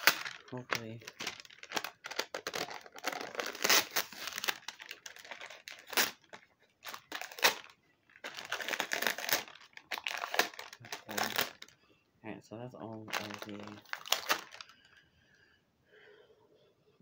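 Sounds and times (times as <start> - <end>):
sticky paper crinkling and tearing: 0.0 - 11.7, 12.9 - 14.9.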